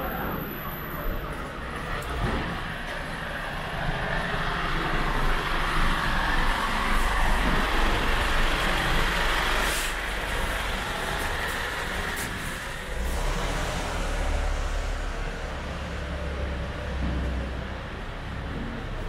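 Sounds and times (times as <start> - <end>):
truck driving past: 1.2 - 19.0.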